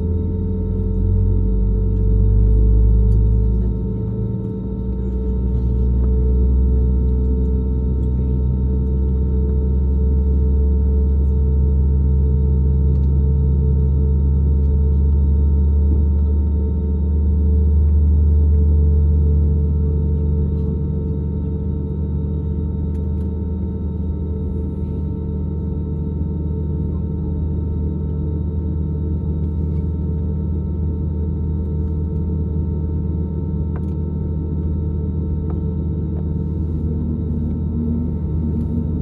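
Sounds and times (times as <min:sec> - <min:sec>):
airplane cabin drone: 0:00.0 - 0:39.0
steady hum tones: 0:00.0 - 0:39.0.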